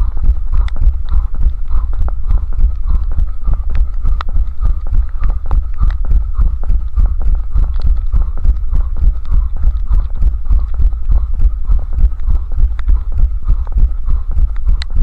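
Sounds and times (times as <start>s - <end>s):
continuous low rumble: 0.0s - 15.0s.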